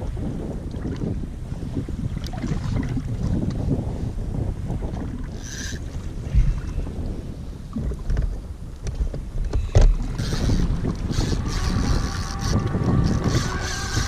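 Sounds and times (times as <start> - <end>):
choppy water: 0.0 - 14.0
wind buffeting microphone: 0.0 - 14.0.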